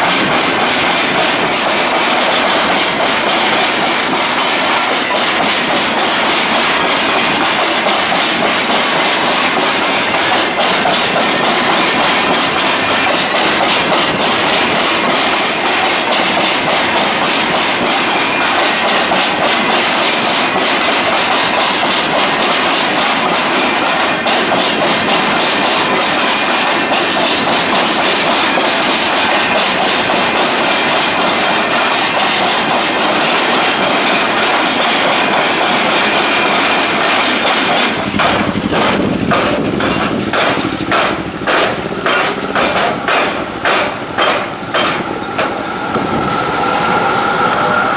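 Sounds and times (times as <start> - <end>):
train wheels clattering on track: 0.0 - 47.9.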